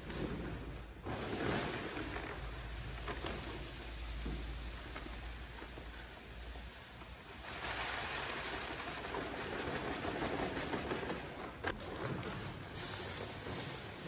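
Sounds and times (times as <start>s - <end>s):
seed pouring into hopper: 1.2s - 11.4s, 12.7s - 14.0s.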